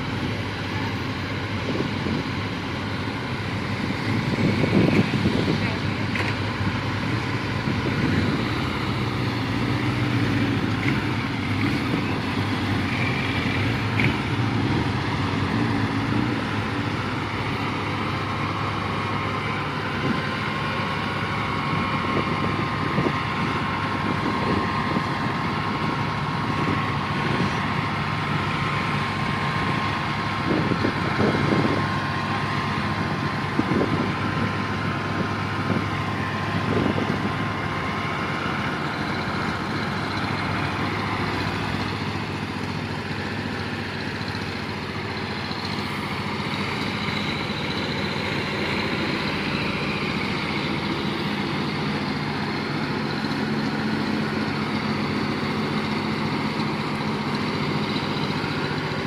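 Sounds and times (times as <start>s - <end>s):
diesel truck engine at low revs: 0.0s - 59.0s.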